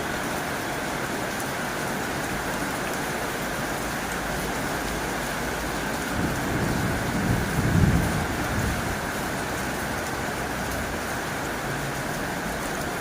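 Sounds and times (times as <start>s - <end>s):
heavy rain on a tin roof: 0.0s - 13.0s.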